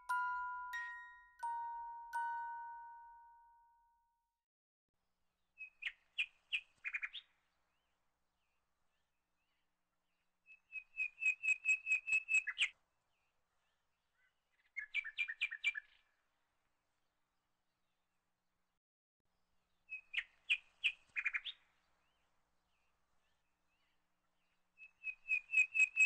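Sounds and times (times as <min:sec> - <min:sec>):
songbird chirping: 0:00.0 - 0:04.2, 0:05.4 - 0:16.2, 0:19.6 - 0:26.0.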